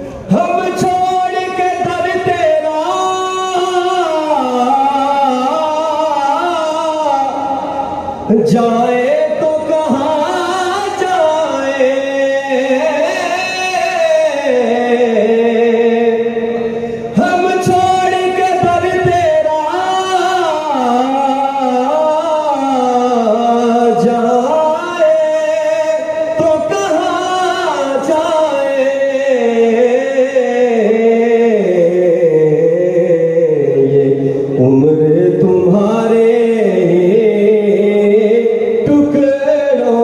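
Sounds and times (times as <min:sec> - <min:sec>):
man singing melismatic notes: 0:00.0 - 0:40.0.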